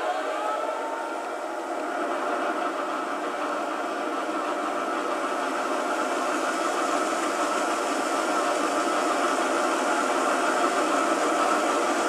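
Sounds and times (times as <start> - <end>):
model train diesel engine sound: 0.0 - 12.0.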